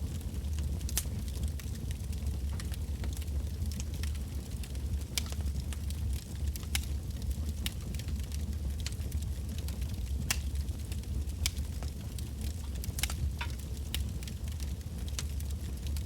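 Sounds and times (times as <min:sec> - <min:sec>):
fire low rumble: 0:00.0 - 0:16.0
firewood crackling and popping: 0:00.0 - 0:16.0.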